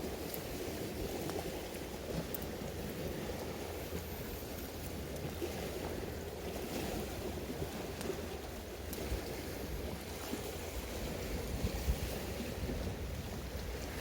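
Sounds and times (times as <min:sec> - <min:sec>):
sea waves washing on shore: 0:00.0 - 0:14.0
wind buffeting microphone: 0:00.0 - 0:14.0.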